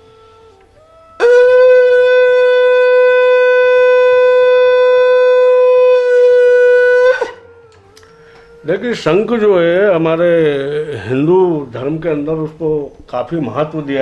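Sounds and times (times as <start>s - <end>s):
wooden conch blown: 0.0s - 12.0s.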